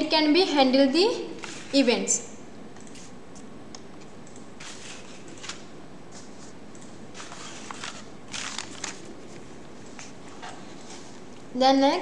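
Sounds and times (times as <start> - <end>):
faint room noise hiss: 0.0 - 12.0.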